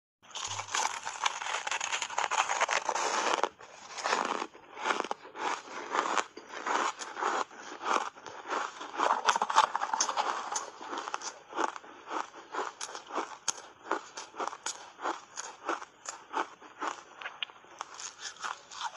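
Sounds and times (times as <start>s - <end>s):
crunchy chewing of shaved ice: 0.3s - 18.9s.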